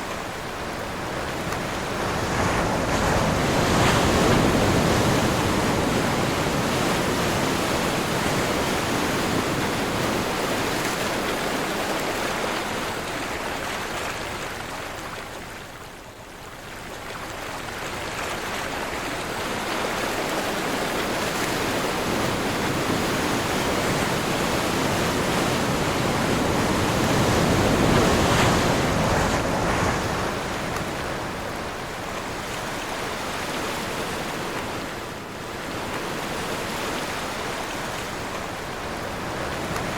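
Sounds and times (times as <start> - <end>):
ocean surf: 0.0 - 15.8, 17.1 - 39.9
wind: 0.0 - 39.9.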